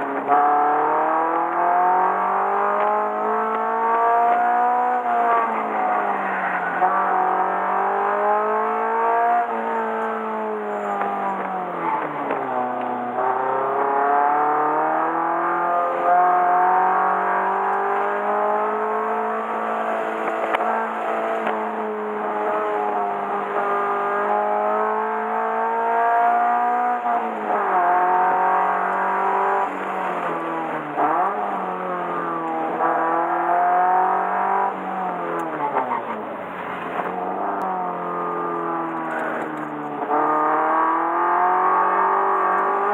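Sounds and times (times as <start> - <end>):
car engine revving: 0.0 - 42.9.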